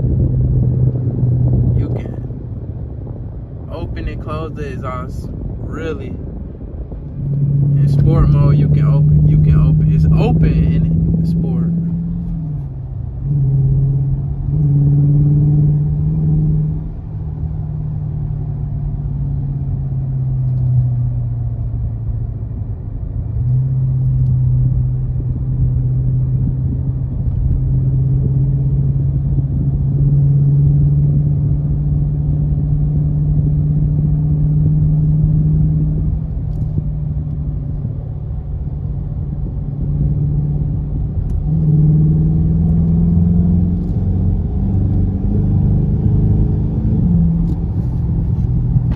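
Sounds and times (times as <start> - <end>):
car exhaust droning: 0.0 - 48.9.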